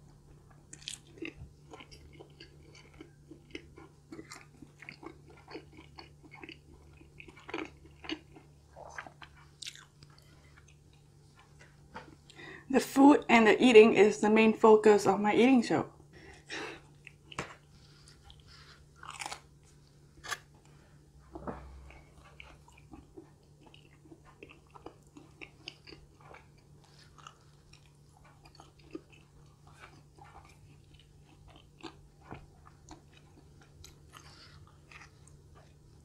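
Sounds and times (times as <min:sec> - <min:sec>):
person chewing and biting: 0:00.3 - 0:12.4, 0:16.8 - 0:36.0.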